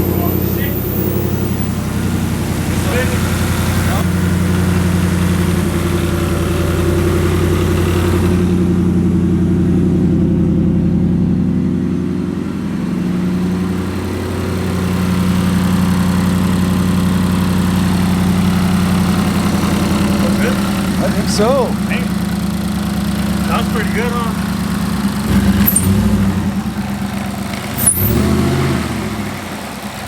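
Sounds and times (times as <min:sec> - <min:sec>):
supercharged car engine idling: 0:00.0 - 0:30.0.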